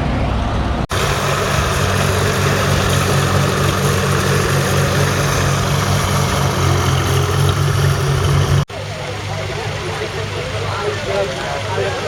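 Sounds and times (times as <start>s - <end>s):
tractor engine running: 0.9s - 12.0s.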